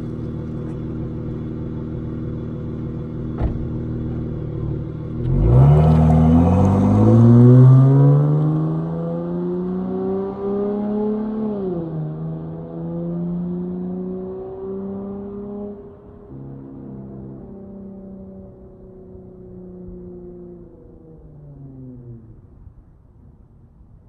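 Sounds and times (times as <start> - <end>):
car engine accelerating hard: 0.0 - 22.2.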